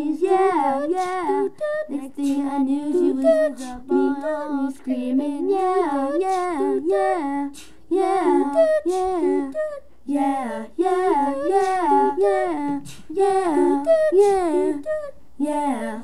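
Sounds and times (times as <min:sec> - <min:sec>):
person singing a cappella: 0:00.0 - 0:16.0.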